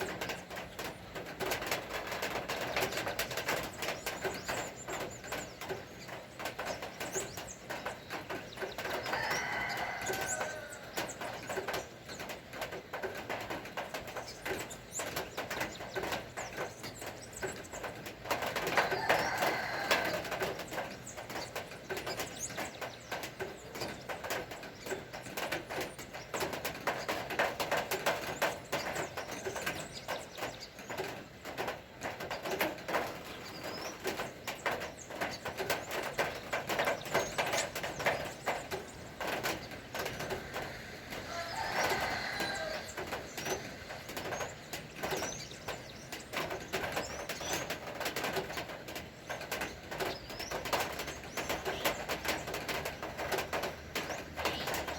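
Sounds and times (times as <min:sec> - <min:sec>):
birds chirping: 0:00.0 - 0:54.9
rain patter: 0:00.0 - 0:54.9.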